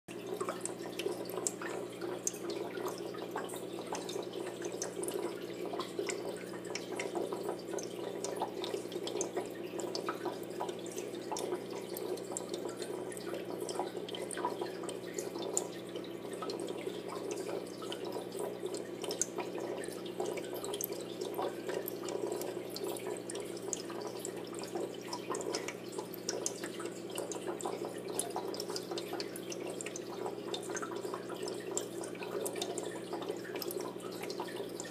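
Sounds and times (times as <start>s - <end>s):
aquarium water trickling: 0.1s - 34.9s
drips and bubbles: 0.1s - 34.9s.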